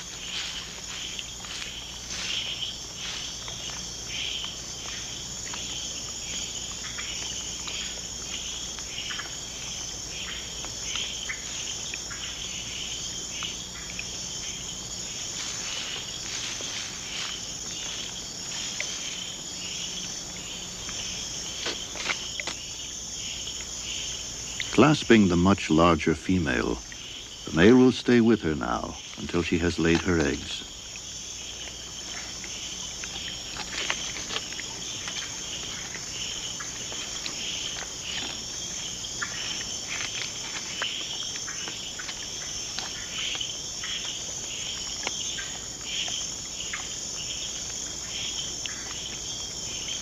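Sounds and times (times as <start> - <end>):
insect chorus trilling: 0.0 - 50.0
short insect chirps: 0.0 - 50.0.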